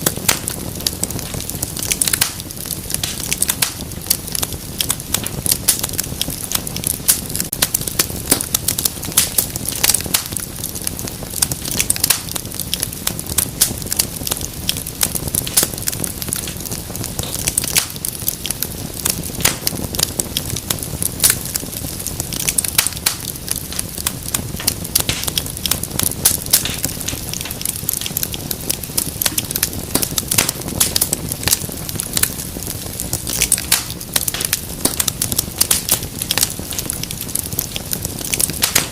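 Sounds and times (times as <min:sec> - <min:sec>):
low fire rumble: 0:00.0 - 0:38.9
wood fire crackling and popping: 0:00.0 - 0:38.9.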